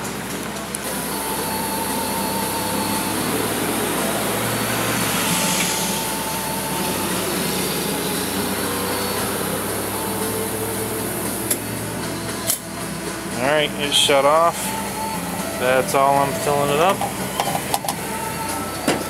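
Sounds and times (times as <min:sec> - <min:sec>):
faint steady whine: 0:00.0 - 0:19.0
fuel flowing from pump nozzle: 0:00.0 - 0:19.0.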